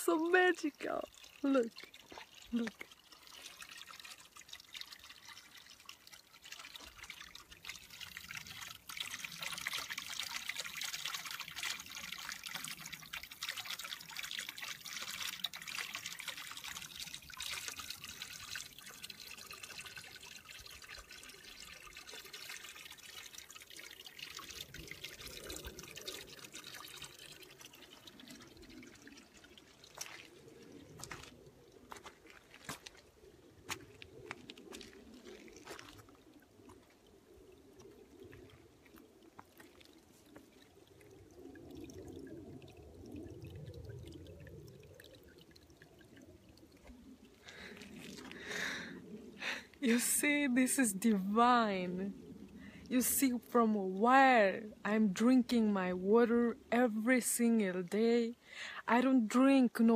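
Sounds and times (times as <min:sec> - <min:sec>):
water pouring onto stones: 0:00.0 - 0:54.6.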